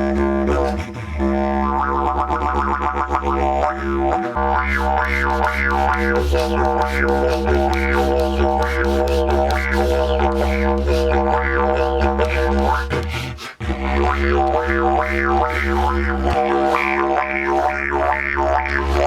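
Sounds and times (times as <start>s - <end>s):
didgeridoo drone: 0.0s - 19.0s.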